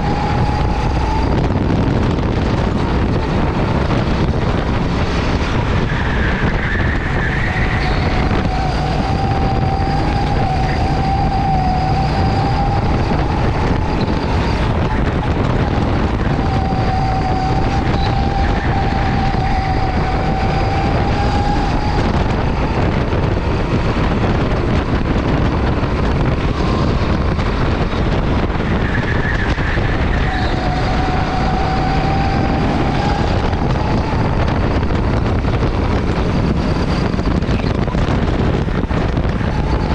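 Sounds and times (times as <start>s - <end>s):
go-kart engine running: 0.0s - 39.9s
wind buffeting microphone: 0.0s - 39.9s.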